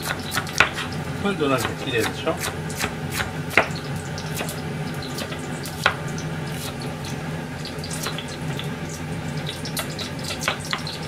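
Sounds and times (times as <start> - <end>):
steady hiss and low hum: 0.0 - 11.0.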